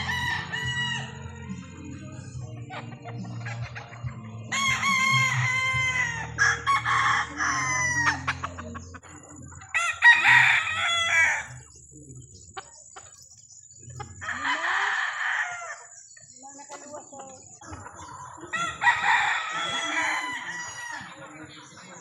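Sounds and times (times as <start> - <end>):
roosters crowing: 0.0 - 12.2, 12.8 - 16.2, 16.9 - 22.0.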